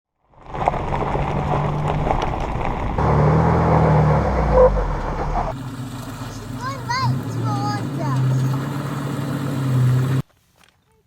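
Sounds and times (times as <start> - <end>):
vehicle engine droning: 0.5 - 10.2.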